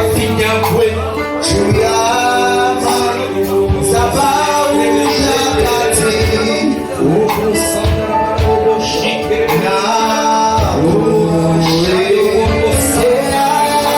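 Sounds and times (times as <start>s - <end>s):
man singing: 0.0s - 13.9s
sustained instrumental backing: 0.0s - 13.9s.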